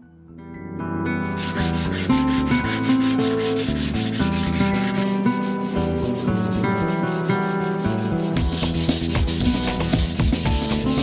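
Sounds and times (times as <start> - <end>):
background music: 0.0 - 11.0
sandpaper rubbing on steel: 1.4 - 11.0.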